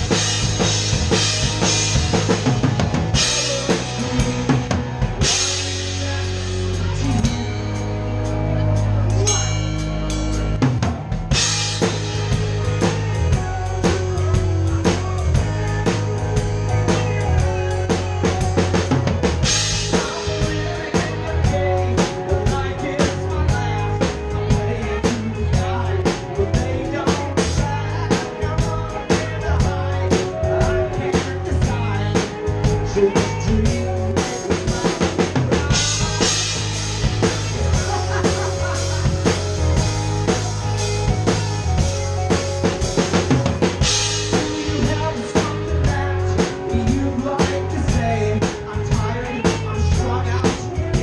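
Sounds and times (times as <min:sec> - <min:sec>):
drum kit beat: 0:00.0 - 0:51.0
live rock band: 0:00.0 - 0:51.0
sustained bass: 0:00.0 - 0:51.0.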